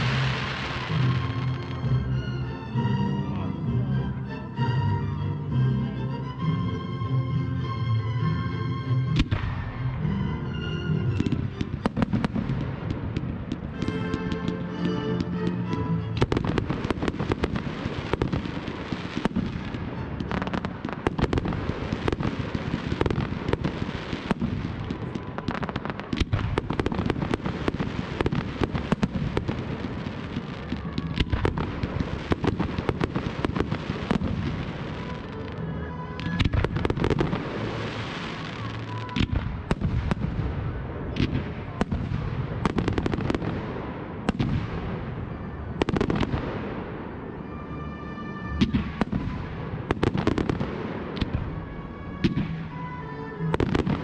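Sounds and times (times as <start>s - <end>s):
fireworks bangs and crackles: 0.0s - 2.2s, 9.1s - 47.7s, 48.5s - 54.0s.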